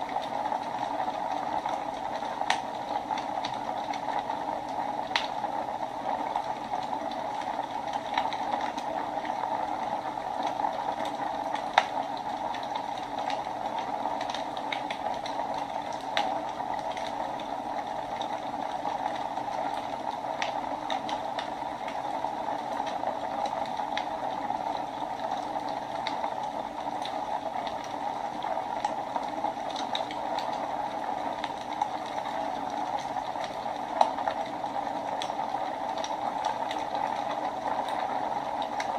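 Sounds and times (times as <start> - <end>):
fire crackles and pops: 0.0 - 38.9
wood fire hissing: 0.0 - 38.9.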